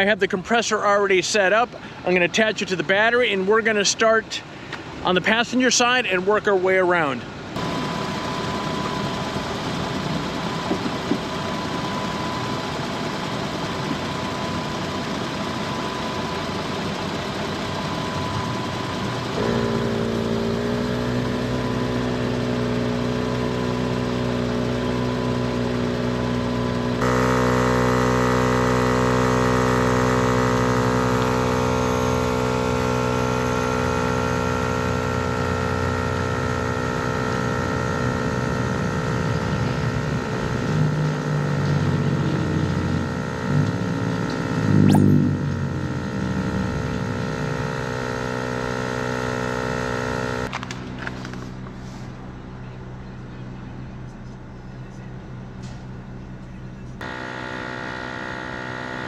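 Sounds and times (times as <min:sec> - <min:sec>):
truck engine idling: 0:00.0 - 0:59.0
air compressor humming: 0:07.0 - 0:59.0.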